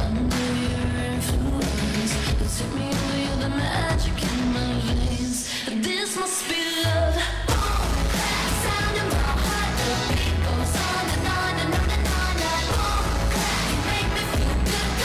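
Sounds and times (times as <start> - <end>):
pop song with singing: 0.0 - 15.0.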